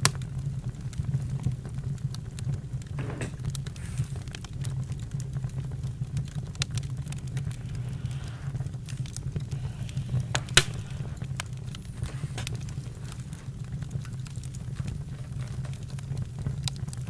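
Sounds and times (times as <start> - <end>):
campfire snaps and pops: 0.0 - 17.0
fire low rumble: 0.0 - 17.0.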